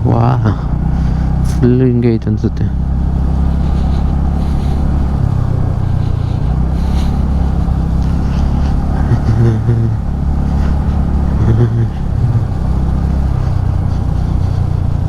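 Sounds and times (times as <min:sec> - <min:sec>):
motorcycle engine running: 0:00.0 - 0:15.0
road noise: 0:00.0 - 0:15.0.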